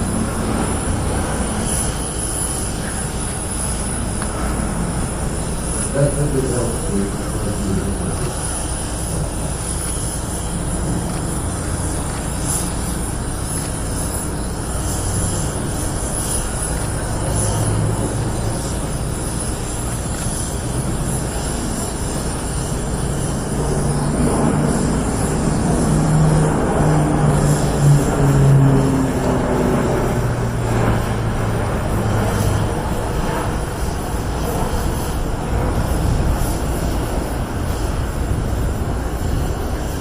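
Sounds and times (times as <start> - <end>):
turboprop aircraft engines droning: 0.0 - 40.0.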